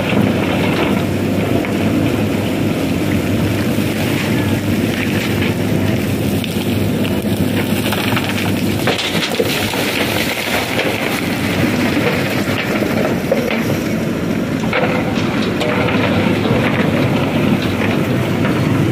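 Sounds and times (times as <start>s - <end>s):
diesel engine running under load: 0.0s - 18.9s.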